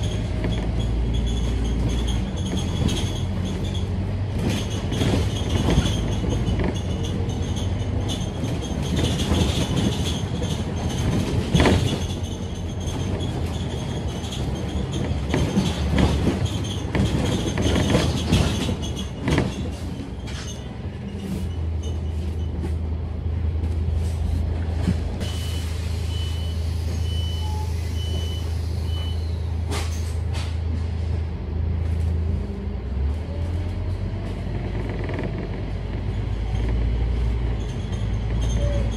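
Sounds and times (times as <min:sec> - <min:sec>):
bus body rattling and knocking: 0:00.0 - 0:25.3, 0:28.0 - 0:38.9
bus engine idling: 0:00.0 - 0:38.9.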